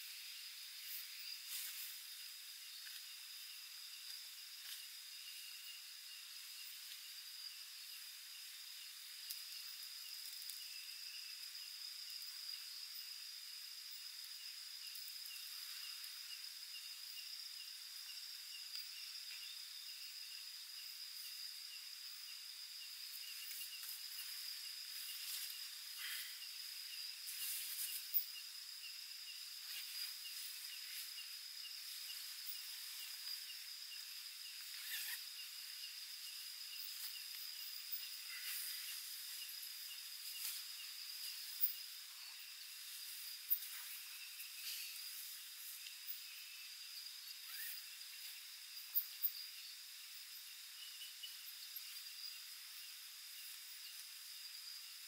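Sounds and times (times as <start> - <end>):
insect pulsing rhythmically: 0.0 - 55.0
insects chirring: 0.0 - 55.0.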